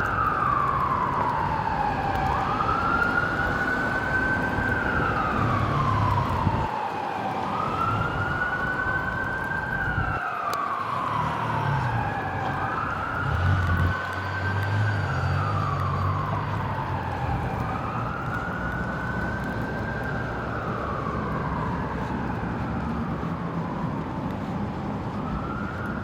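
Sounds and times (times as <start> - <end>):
emergency siren wailing: 0.0 - 26.0
street traffic rumble: 0.0 - 26.0.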